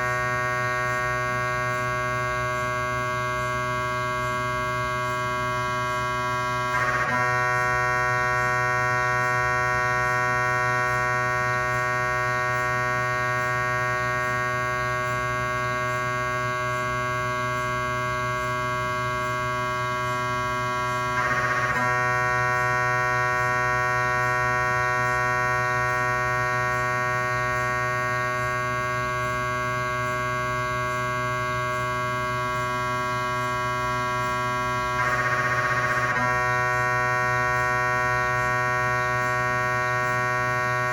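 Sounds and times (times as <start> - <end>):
brief buzzing burst: 0.0 - 40.9
mri scanner buzzing: 0.0 - 40.9.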